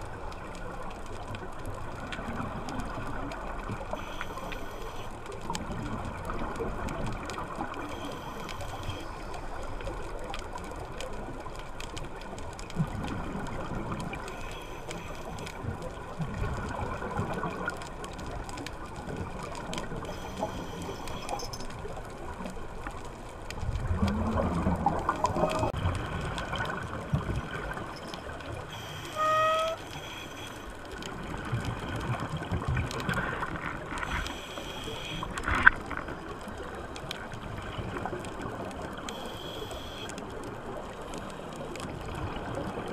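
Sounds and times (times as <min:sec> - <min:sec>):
exhaled bubbles gurgling: 0:00.0 - 0:42.9
steady watery hiss: 0:00.0 - 0:42.9.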